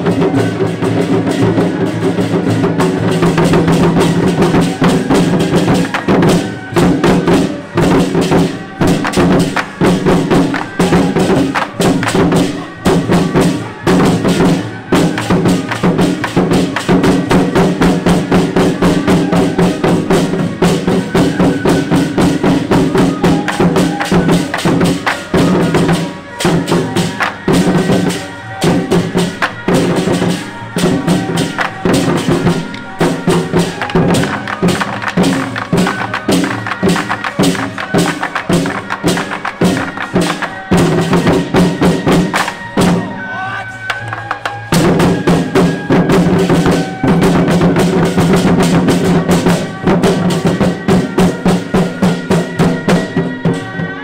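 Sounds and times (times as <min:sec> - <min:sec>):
barrel drums playing: 0:00.0 - 0:54.0.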